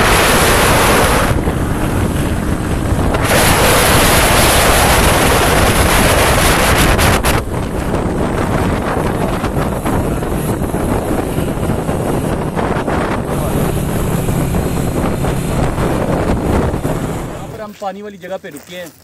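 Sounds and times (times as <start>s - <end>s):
motorcycle engine running: 0.0s - 17.7s
wind buffeting microphone: 0.0s - 17.7s.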